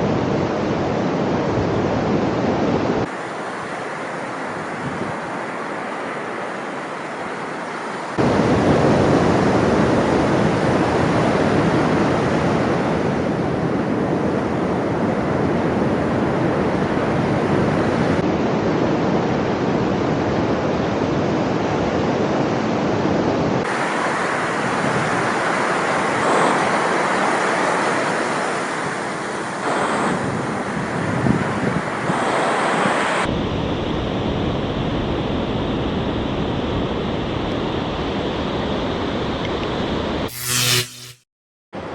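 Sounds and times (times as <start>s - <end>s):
wind rushing over microphones: 0.0s - 40.3s.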